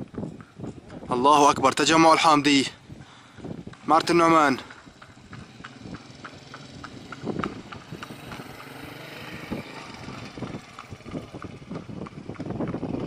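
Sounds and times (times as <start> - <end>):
steady outdoor hiss: 0.0 - 12.9.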